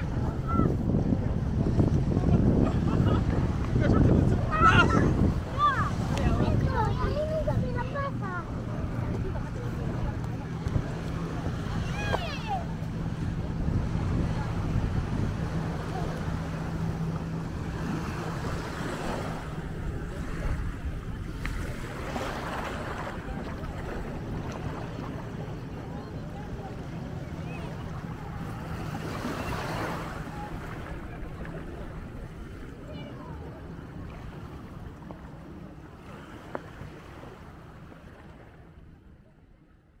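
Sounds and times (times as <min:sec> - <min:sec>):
wind on microphone: 0:00.0 - 0:35.5
surf washing on shore: 0:00.0 - 0:39.2.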